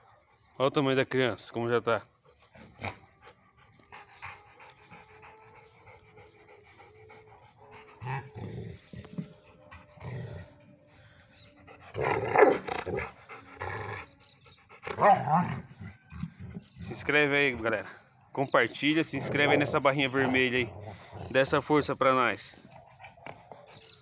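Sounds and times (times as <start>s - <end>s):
dog panting: 2.0s - 21.8s, 22.4s - 24.0s.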